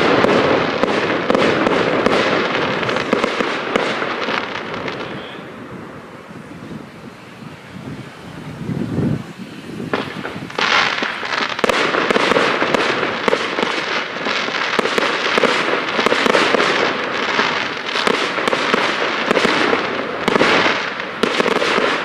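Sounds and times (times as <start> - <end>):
fireworks bangs: 0.0 - 22.0
fireworks crackling and popping: 0.0 - 22.0.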